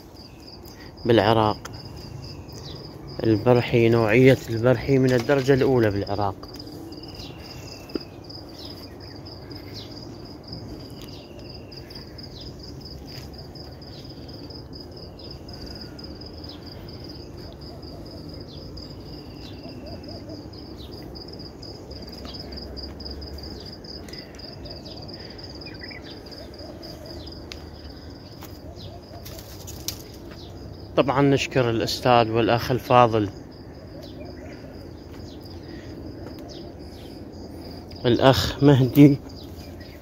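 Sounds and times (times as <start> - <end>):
high insect trill: 0.0 - 40.0.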